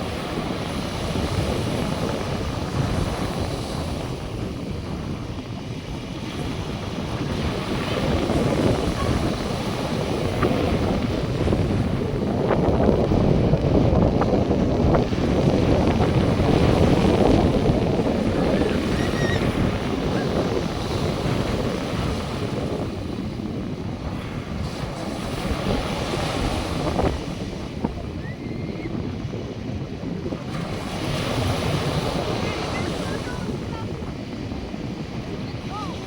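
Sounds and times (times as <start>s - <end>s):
surf washing onto beach: 0.0s - 36.0s
wind buffeting microphone: 0.0s - 36.0s.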